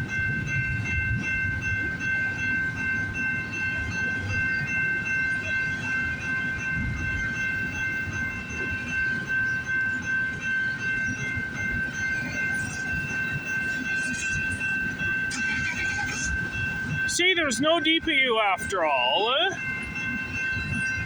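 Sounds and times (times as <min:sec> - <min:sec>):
freight train rolling past: 0:00.0 - 0:21.0
high-pitched ringing tone: 0:00.0 - 0:21.0
wheels clattering on rails: 0:00.0 - 0:21.0.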